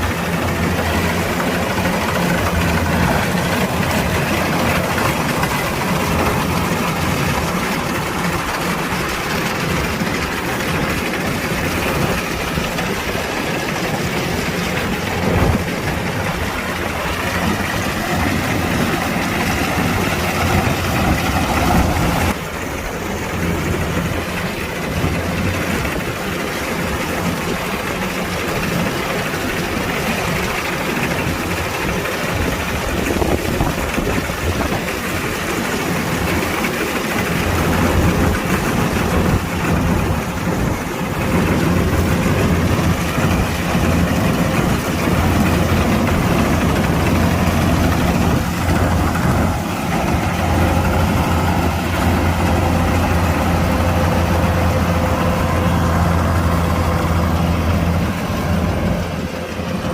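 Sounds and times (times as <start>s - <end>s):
combine harvester diesel engine running: 0.0s - 59.9s
machinery rattle: 0.0s - 59.9s.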